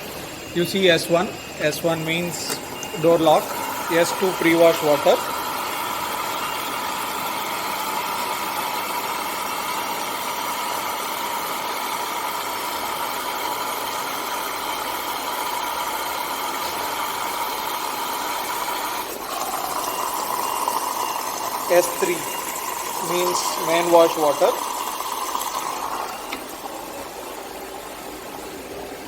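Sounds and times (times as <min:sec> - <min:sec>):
water hissing into washing machine: 0:00.0 - 0:29.0.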